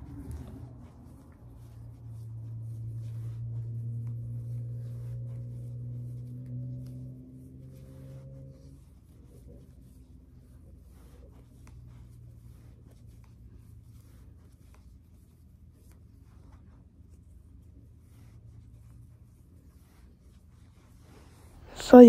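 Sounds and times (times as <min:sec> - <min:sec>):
hair rustling while braided: 0:00.0 - 0:22.0.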